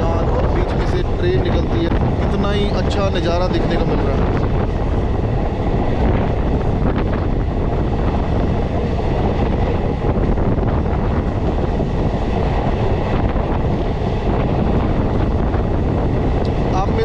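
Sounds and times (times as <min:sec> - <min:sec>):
train running noise: 0:00.0 - 0:17.0
wind rushing over microphone: 0:00.0 - 0:17.0.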